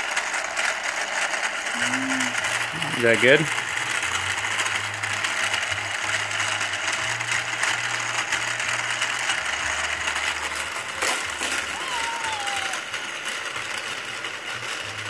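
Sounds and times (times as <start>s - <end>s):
toy car booster motor whirring: 0.0s - 15.0s.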